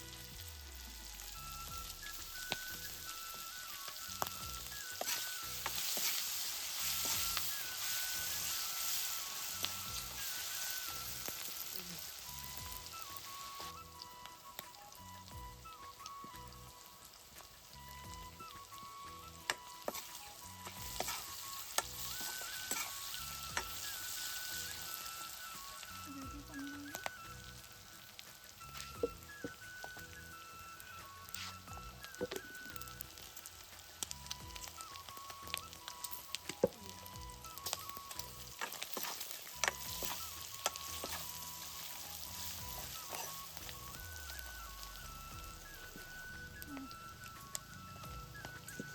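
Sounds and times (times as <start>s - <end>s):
food sizzling in pan: 0.0s - 48.9s.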